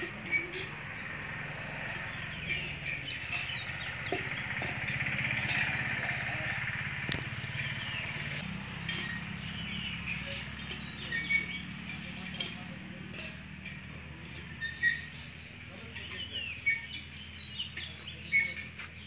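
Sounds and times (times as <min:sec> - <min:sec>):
birds chirping: 0:00.0 - 0:19.0
engine humming: 0:00.0 - 0:19.0.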